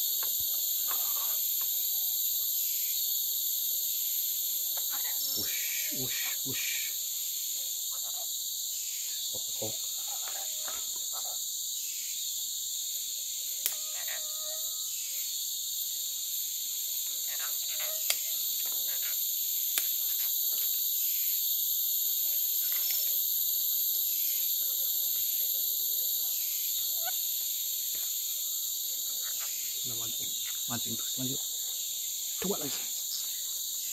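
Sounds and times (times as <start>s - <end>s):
insect chorus droning: 0.0s - 33.9s.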